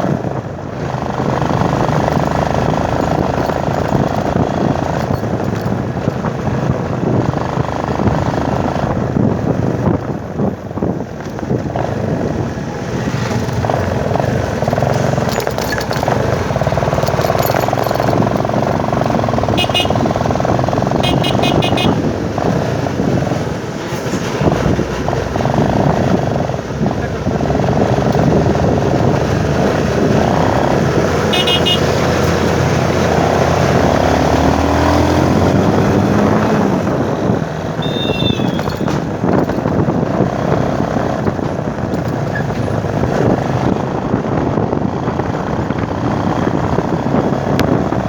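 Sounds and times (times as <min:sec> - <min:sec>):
motorcycle engine drone: 0:00.0 - 0:48.0.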